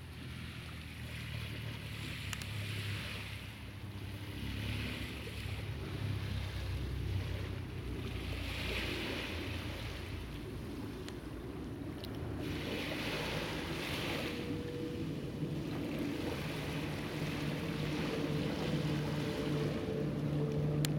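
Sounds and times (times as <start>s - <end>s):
low engine hum: 0.0s - 20.9s
sea waves washing ashore: 0.0s - 20.9s.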